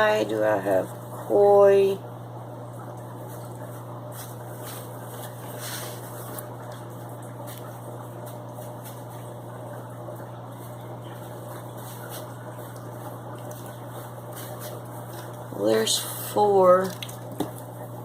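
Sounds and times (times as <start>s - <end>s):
aquarium pumps humming and bubbling: 0.0s - 18.0s.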